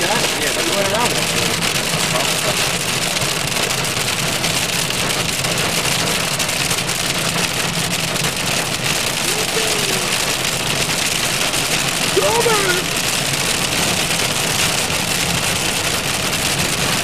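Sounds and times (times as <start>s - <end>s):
engine hum: 0.0s - 17.0s
heavy rain on car roof: 0.0s - 17.0s.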